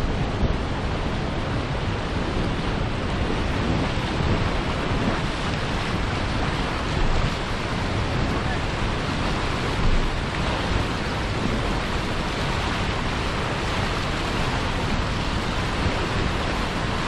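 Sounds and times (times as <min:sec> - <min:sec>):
white water rushing: 0:00.0 - 0:17.0.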